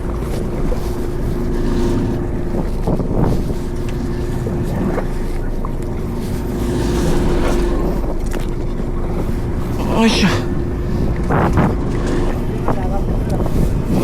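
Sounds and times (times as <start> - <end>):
boat engine humming: 0.0 - 14.0
wind buffeting microphone: 0.0 - 14.0.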